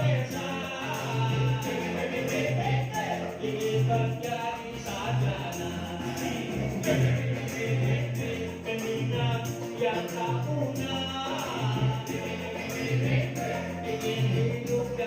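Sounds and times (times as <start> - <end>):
jingling tambourine percussion: 0.0 - 15.0.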